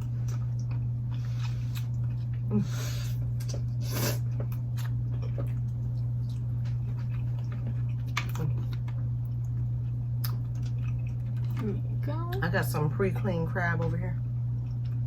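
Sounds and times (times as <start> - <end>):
chewing and smacking: 0.0 - 2.5, 3.2 - 12.4, 14.4 - 15.0
steady low hum: 0.0 - 15.0.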